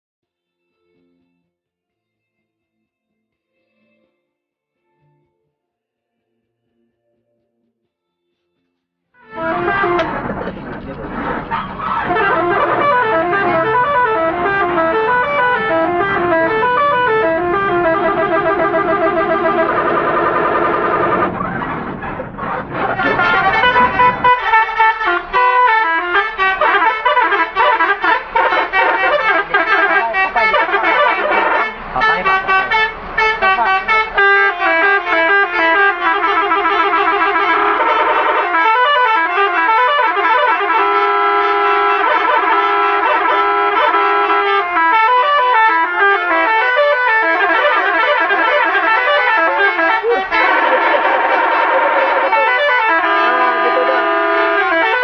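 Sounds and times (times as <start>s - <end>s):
multi-tone bus horn tune: 9.2s - 55.0s.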